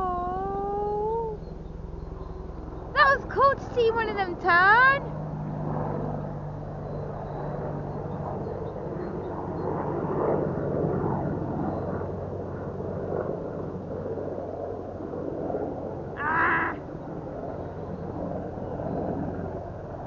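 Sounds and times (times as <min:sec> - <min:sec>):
helicopter flying overhead: 0:00.0 - 0:20.0.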